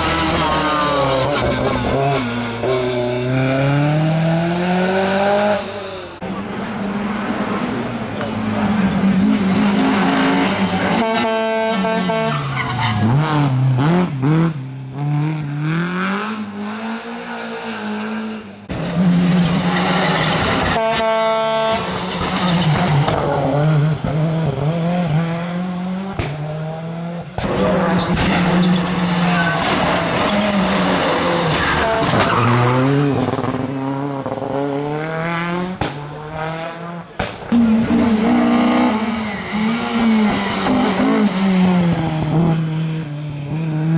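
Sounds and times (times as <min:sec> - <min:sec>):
rally car engines revving: 0:00.0 - 0:43.9.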